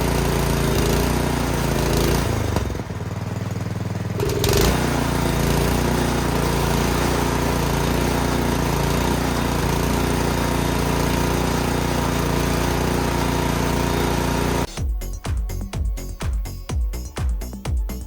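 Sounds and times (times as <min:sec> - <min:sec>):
snowblower engine running: 0:00.0 - 0:14.8.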